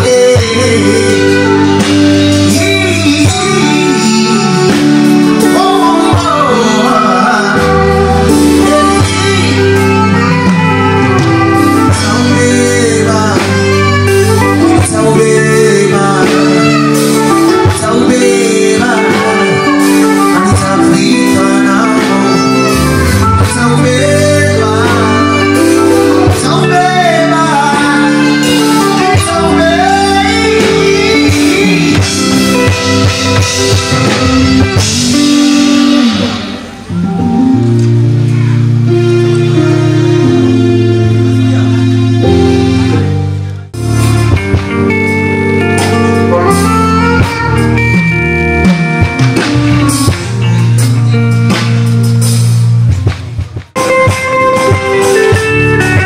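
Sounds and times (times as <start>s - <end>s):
bass and drums: 0.0s - 56.0s
guitar lines: 0.0s - 56.0s
live band music: 0.0s - 56.0s.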